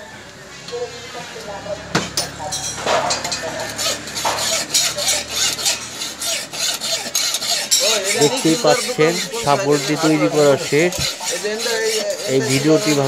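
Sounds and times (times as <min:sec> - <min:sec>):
file rasping on steel: 0:02.2 - 0:13.0.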